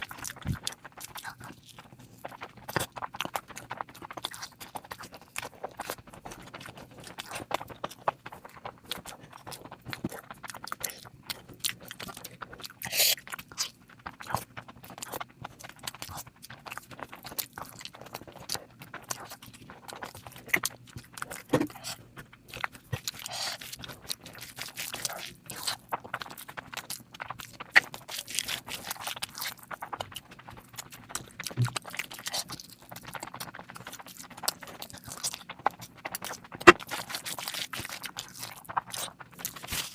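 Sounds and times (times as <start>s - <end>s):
person chewing with mouth clicks: 0.0s - 39.9s.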